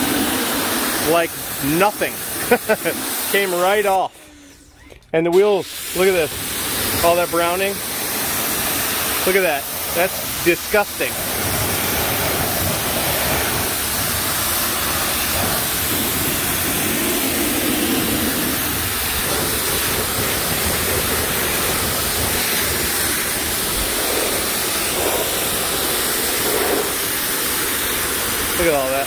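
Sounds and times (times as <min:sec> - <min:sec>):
pressure washer jet spraying: 0:00.0 - 0:04.2, 0:05.2 - 0:29.0.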